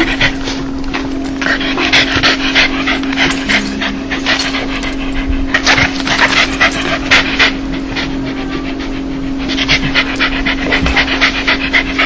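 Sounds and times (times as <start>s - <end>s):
dog panting: 0.0s - 12.0s
steady low hum: 0.0s - 12.0s.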